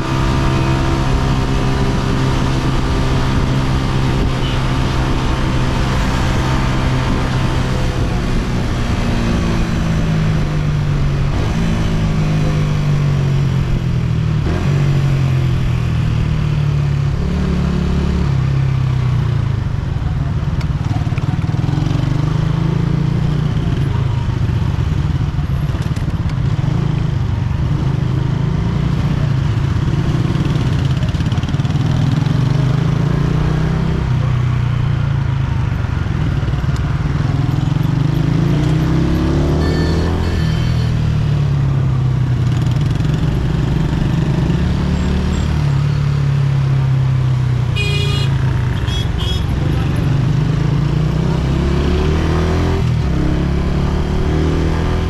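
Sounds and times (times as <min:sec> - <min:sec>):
motorcycle engine running: 0:00.0 - 0:33.0, 0:33.8 - 0:55.0.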